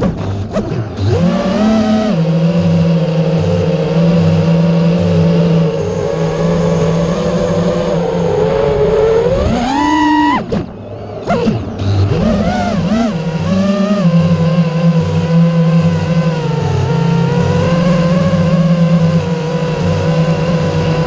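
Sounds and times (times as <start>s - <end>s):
low pulse: 0.0s - 21.0s
motor running: 0.0s - 21.0s.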